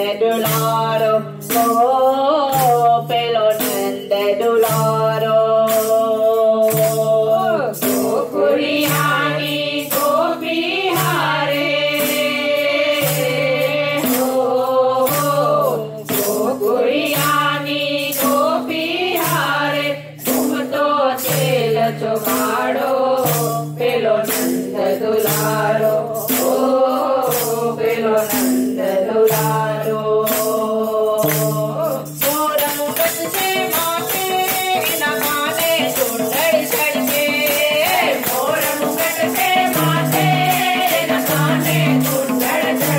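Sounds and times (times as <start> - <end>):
women singing together: 0.0 - 42.9.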